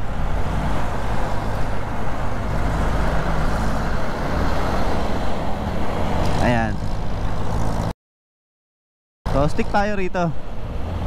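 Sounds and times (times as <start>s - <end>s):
road and traffic noise: 0.0s - 8.0s, 9.3s - 11.0s.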